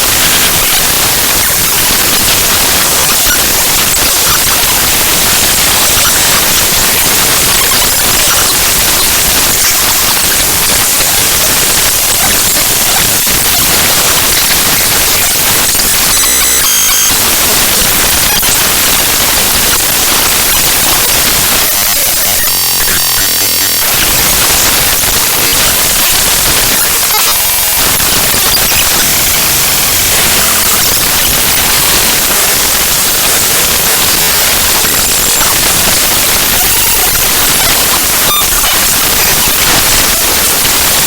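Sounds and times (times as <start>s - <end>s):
buzzy tone: 0.0s - 41.0s
harsh static-like noise: 0.0s - 41.0s.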